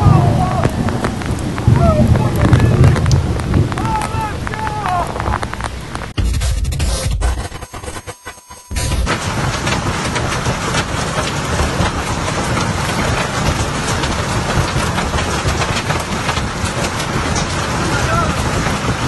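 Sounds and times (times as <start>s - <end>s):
hailstones clattering on ground: 0.0s - 6.2s, 8.8s - 19.0s
hiss of falling ice and rain: 0.0s - 6.2s, 9.1s - 19.0s.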